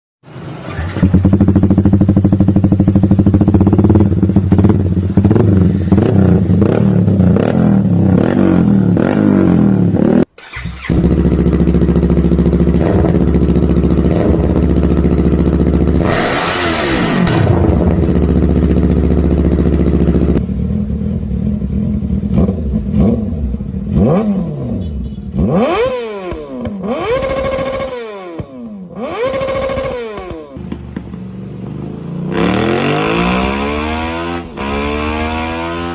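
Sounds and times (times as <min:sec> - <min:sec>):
motorcycle engine revving: 0:00.2 - 0:35.9
motorcycle engine running: 0:00.7 - 0:10.2, 0:10.8 - 0:35.9.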